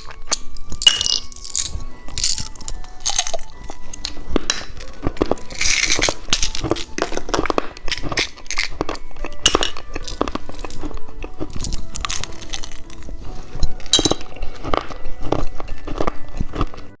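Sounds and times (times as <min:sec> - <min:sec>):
candy crunching: 0:00.0 - 0:17.0
soft background music: 0:00.0 - 0:17.0.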